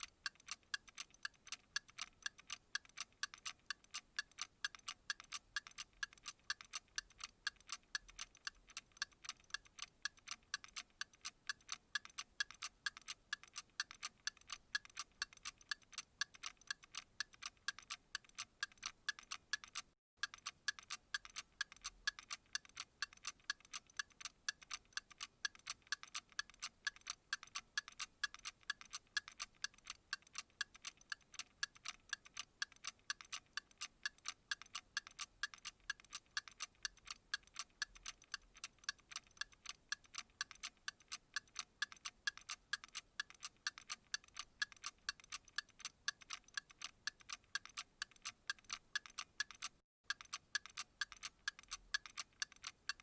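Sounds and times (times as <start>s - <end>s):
clock ticking: 0.0s - 53.0s.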